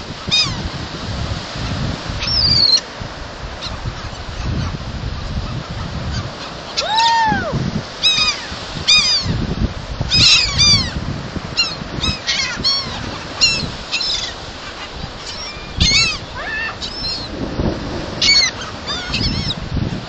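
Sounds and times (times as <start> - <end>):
gulls calling: 0.0 - 0.8, 2.2 - 2.9, 3.6 - 20.0
wind on microphone: 0.0 - 20.0.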